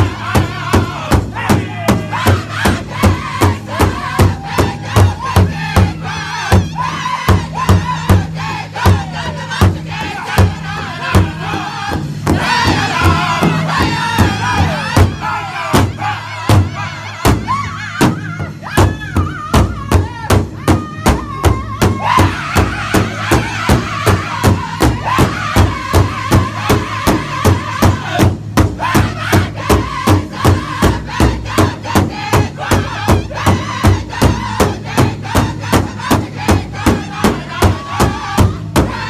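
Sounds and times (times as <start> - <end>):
large drum beating: 0.0 - 39.0
men singing in high voices: 0.0 - 39.0.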